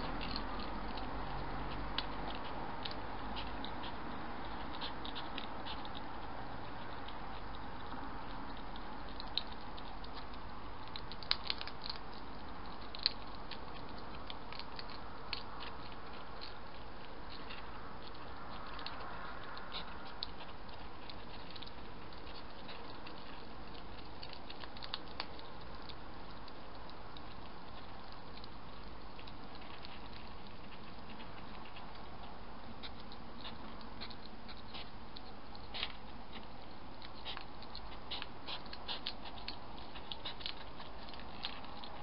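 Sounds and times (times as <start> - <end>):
hedgehogs chewing food: 0.0 - 42.0.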